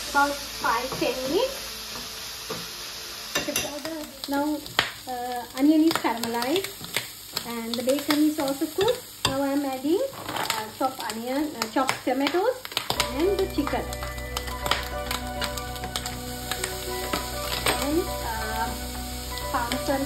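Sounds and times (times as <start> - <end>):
bacon and onion sizzling: 0.0 - 20.0.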